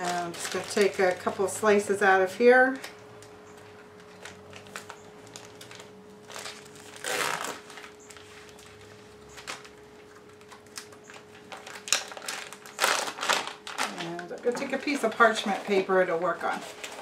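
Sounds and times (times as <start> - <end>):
plastic packaging crinkling: 0.0 - 1.9, 2.7 - 17.0.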